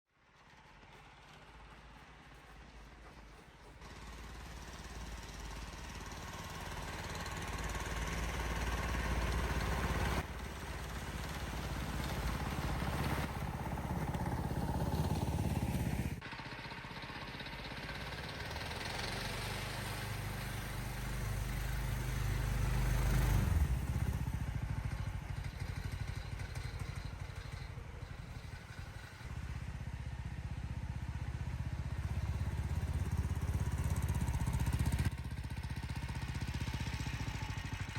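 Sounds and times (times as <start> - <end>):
small engine running: 0.2 - 37.9.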